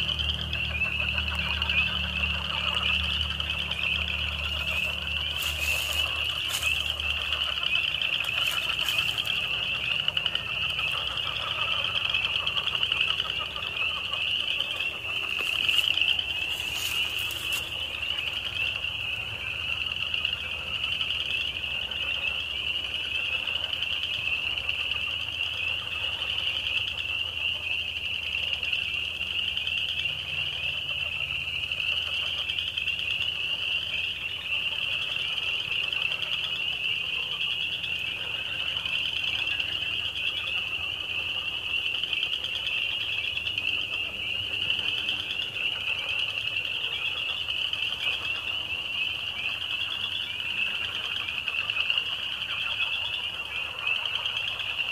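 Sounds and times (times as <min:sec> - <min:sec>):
frogs peeping chorus: 0:00.0 - 0:54.9.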